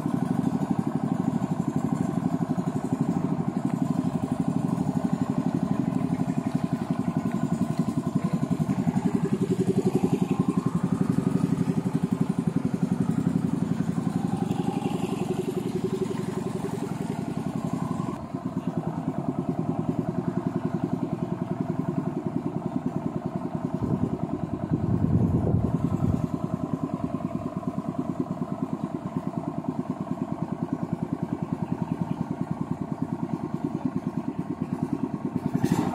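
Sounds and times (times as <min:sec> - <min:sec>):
boat engine running: 0:00.0 - 0:35.9.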